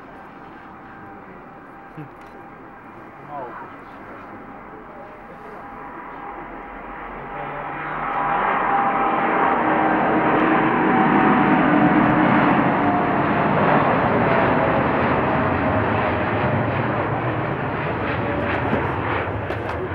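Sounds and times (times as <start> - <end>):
jet engine roar: 0.0 - 19.9.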